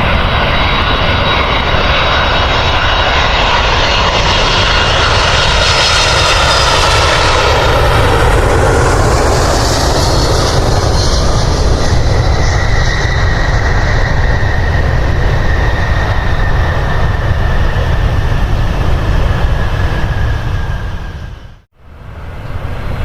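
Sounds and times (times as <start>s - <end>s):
jet airliner engines passing: 0.0s - 23.0s.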